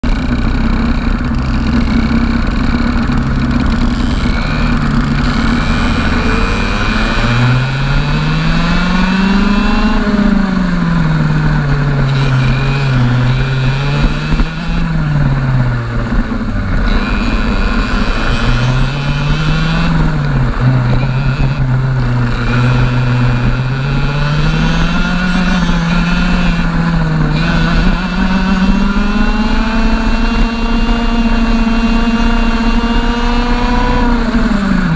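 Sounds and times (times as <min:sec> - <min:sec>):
kart engine revving: 0:00.0 - 0:34.9
wind rushing over microphone: 0:03.2 - 0:34.9.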